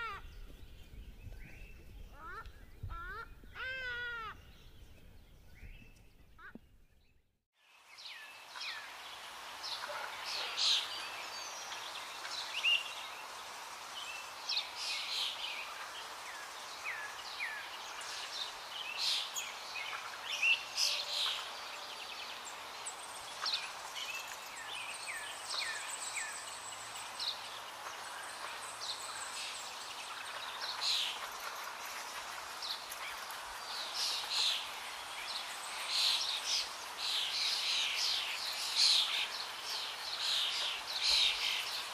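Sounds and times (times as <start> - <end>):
outdoor background hiss: 0.0 - 7.0, 7.6 - 41.9
small birds chirping: 7.8 - 41.9.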